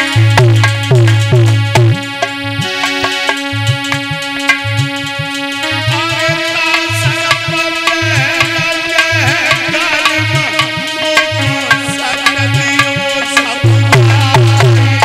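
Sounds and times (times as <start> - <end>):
held drone: 0.0 - 15.0
wavering melody: 0.0 - 15.0.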